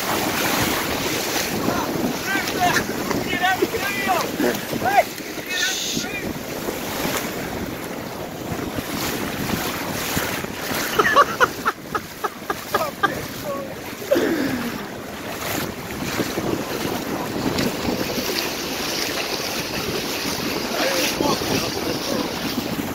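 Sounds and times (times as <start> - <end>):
waves surging and foaming: 0.0 - 22.9
wind buffeting microphone: 0.0 - 22.9.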